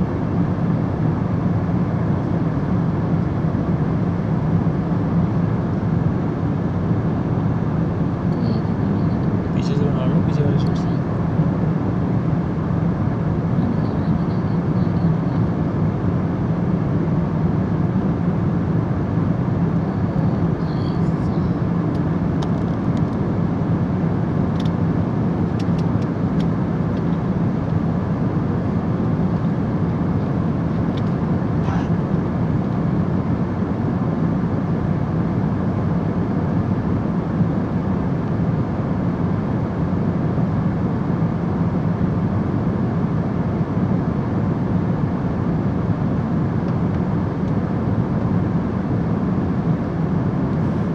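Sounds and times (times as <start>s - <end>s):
aeroplane cabin engine roar: 0.0s - 50.9s.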